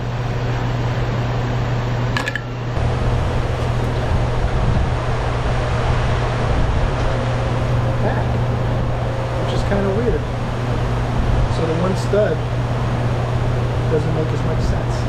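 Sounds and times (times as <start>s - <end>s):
fan humming and rushing air: 0.0s - 15.0s.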